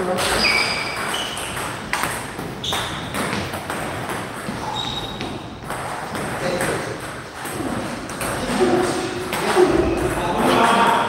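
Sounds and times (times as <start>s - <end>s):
table tennis balls clicking: 0.2s - 11.0s.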